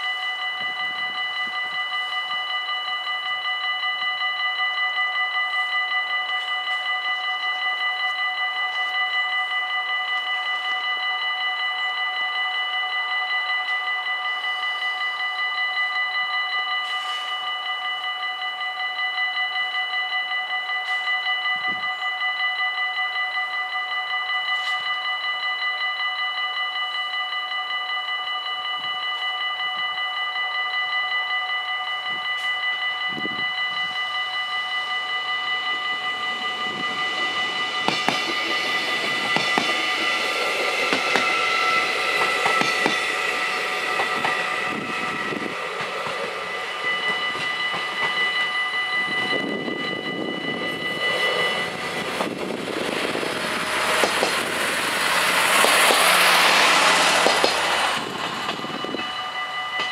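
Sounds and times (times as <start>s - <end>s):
level crossing bells ringing: 0.0s - 59.9s.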